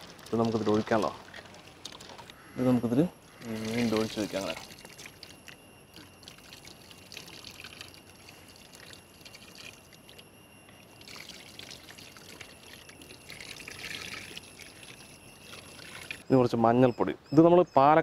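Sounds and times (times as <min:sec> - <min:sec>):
liquid pouring and trickling: 0:00.0 - 0:02.1, 0:03.4 - 0:16.2.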